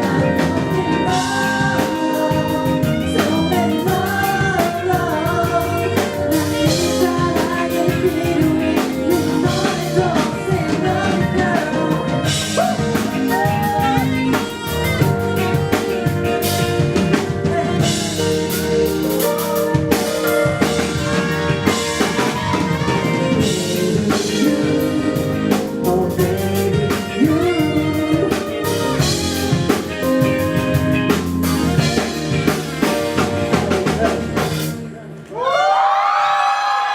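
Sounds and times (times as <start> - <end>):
person singing: 0.0 - 31.2, 31.8 - 35.4
drum kit: 0.0 - 35.1
live band playing: 0.0 - 35.2.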